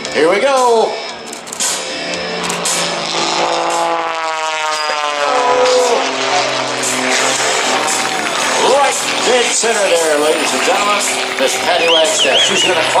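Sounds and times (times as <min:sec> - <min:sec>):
propeller plane passing low: 0:01.0 - 0:13.0.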